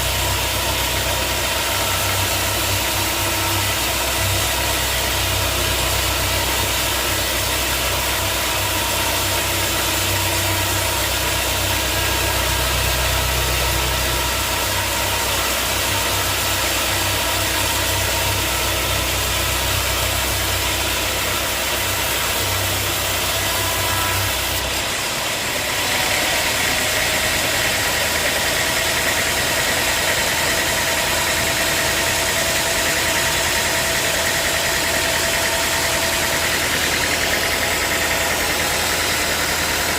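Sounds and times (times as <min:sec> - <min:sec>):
sawmill engine and saw running: 0:00.0 - 0:39.9.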